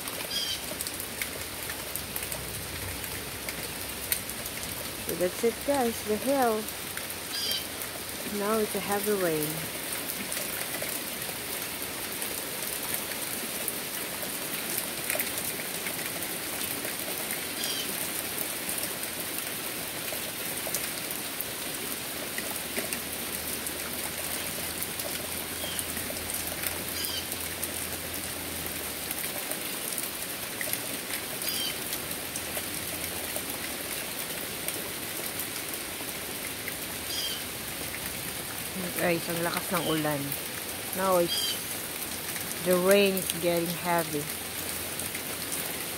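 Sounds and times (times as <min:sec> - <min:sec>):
heavy rain on wood and trees: 0:00.0 - 0:45.9.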